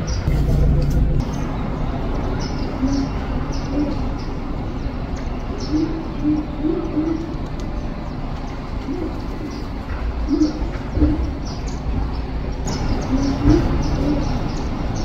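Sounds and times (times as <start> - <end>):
low background rumble: 0.0 - 15.0
small birds chirping: 0.0 - 15.0
dove cooing: 2.4 - 15.0.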